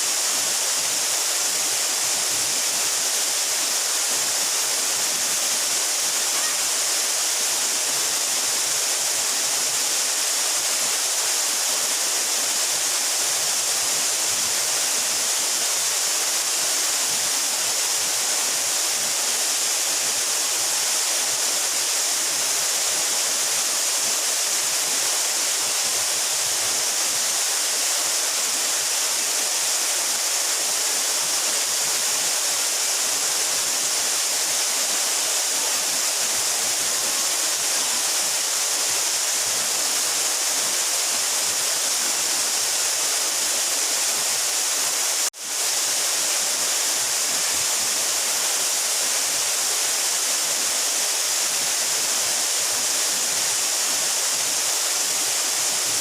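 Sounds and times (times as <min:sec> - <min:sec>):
waterfall crashing: 0:00.0 - 0:56.0.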